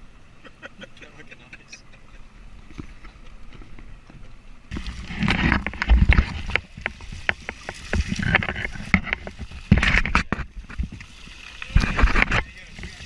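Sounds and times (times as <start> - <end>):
water splashing: 1.1 - 13.0.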